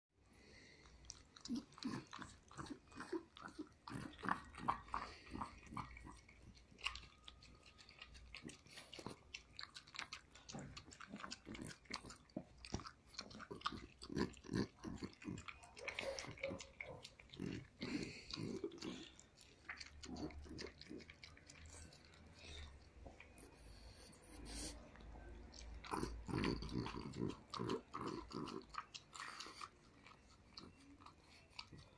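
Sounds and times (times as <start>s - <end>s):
dog licking and chewing: 0.8s - 31.9s.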